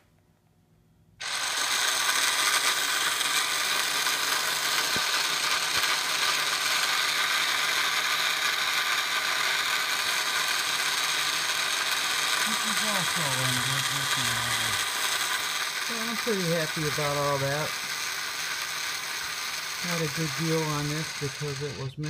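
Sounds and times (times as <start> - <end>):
harsh grinding noise: 1.2 - 22.0.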